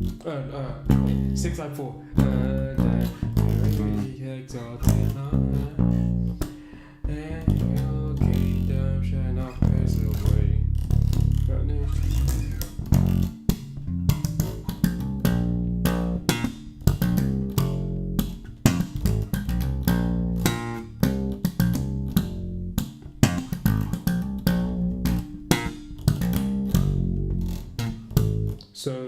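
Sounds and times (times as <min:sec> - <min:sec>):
electric bass guitar line: 0:00.0 - 0:28.6.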